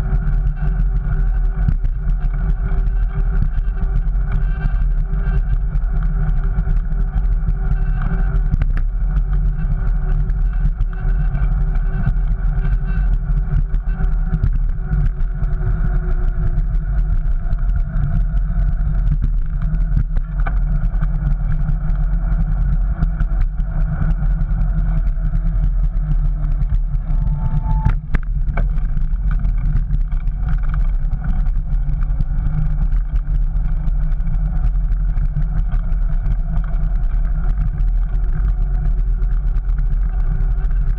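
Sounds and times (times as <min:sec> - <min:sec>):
bicycle clicks and rattles: 0:00.0 - 0:40.9
wind and tyres rumbling: 0:00.0 - 0:40.9.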